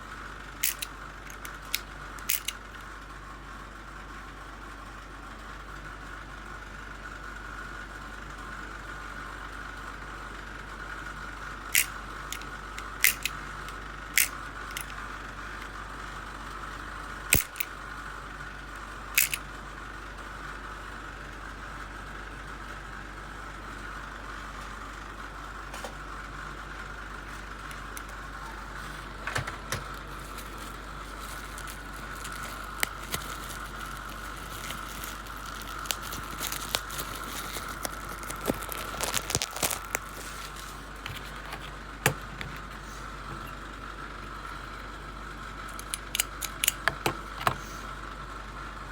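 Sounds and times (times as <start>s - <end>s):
electrical hum: 0.0s - 3.9s, 5.0s - 48.9s.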